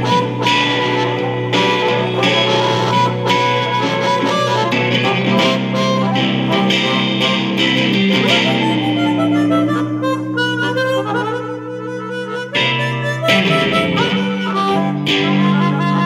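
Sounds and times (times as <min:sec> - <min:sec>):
electric guitar: 0:00.0 - 0:16.0
harmonica: 0:00.0 - 0:16.0.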